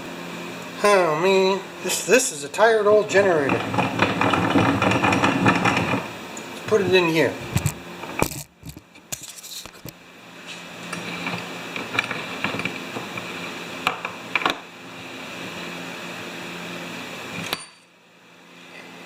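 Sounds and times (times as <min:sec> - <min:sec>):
fan-like hum: 0:00.0 - 0:19.0.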